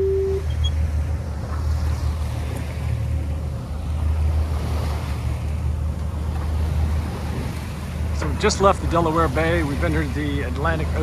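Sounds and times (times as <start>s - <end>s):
bow wave rushing along hull: 0.0s - 11.0s
low engine drone: 0.0s - 11.0s.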